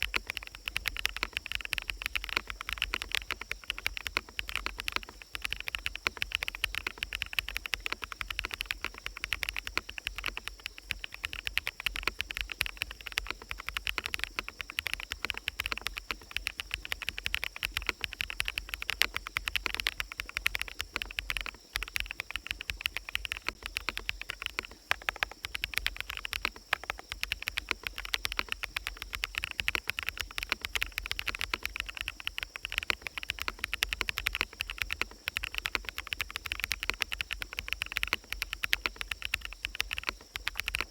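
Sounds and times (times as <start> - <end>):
forest ambience hiss: 0.0 - 40.9
mechanical keyboard typing: 0.0 - 40.9.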